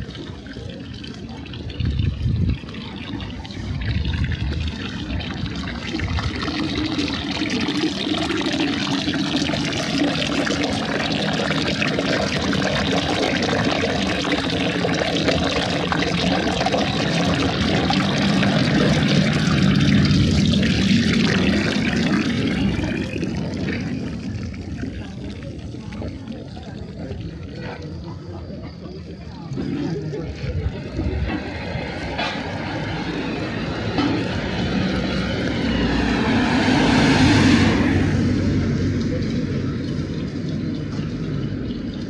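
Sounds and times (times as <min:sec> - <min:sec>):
rushing water: 0:00.0 - 0:28.0, 0:31.0 - 0:41.9.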